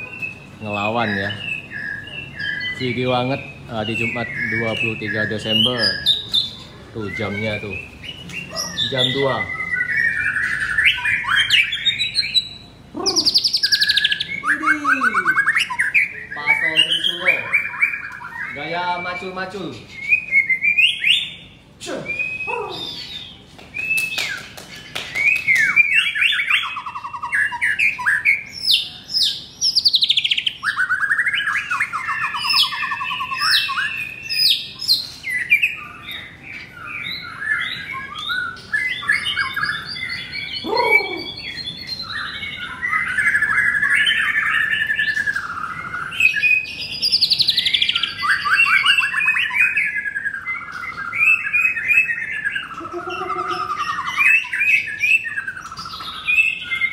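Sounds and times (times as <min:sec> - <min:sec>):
bird singing: 0:00.0 - 0:56.9.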